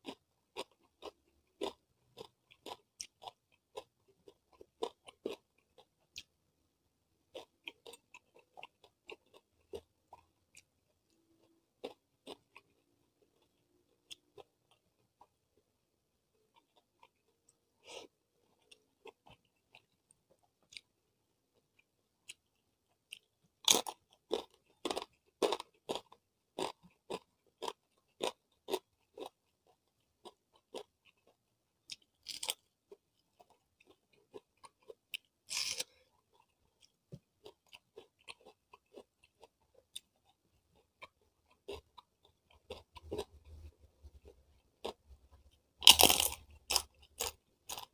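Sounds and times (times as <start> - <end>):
chewing crisp food: 0.0 - 6.4, 7.2 - 15.6, 16.3 - 47.9.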